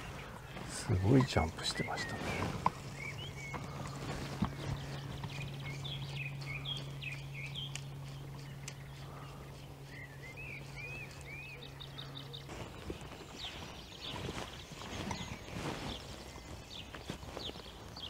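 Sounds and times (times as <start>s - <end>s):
small bird singing: 0.0s - 18.0s
steady low hum: 0.0s - 18.0s.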